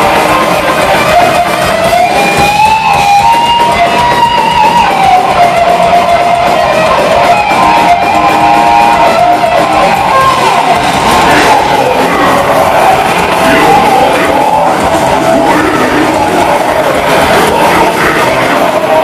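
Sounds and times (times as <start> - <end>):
electric guitar bending notes: 0.0 - 19.0.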